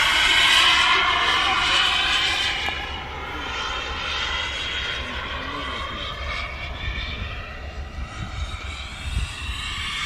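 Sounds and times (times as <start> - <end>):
model jet turbine whine: 0.0 - 10.0.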